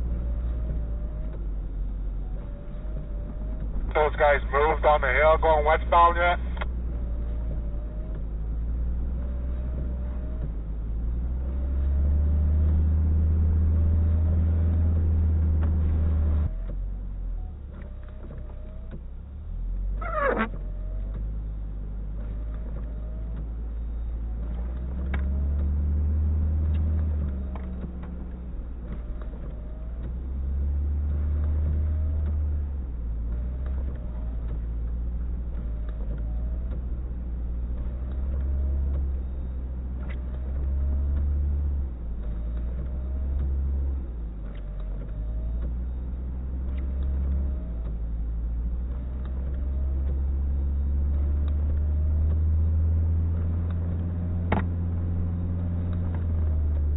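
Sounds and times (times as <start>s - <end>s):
vehicle engine rumble: 0.0s - 56.9s.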